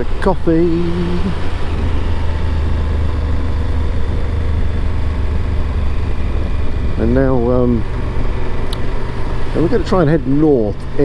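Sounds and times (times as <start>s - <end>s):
motorcycle engine rumble: 0.0s - 11.0s
road noise: 0.0s - 11.0s.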